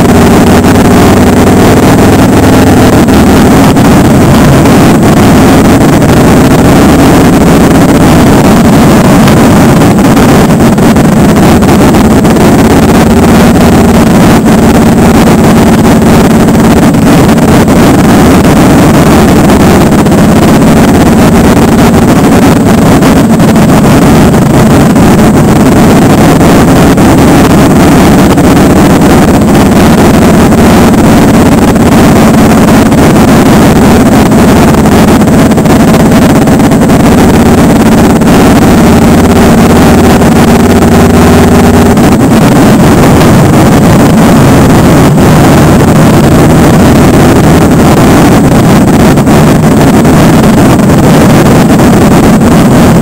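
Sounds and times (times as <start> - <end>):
group of motorcycles riding: 0.0 - 53.0
motorcycle engine cruising: 0.0 - 53.0.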